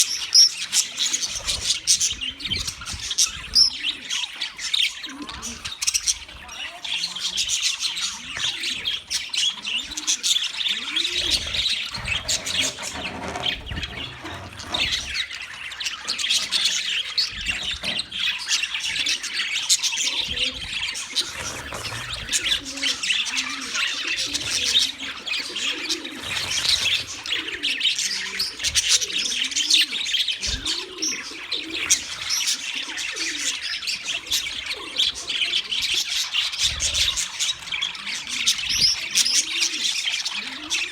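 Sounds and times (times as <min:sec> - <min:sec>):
budgerigars chattering and chirping: 0:00.0 - 0:40.9.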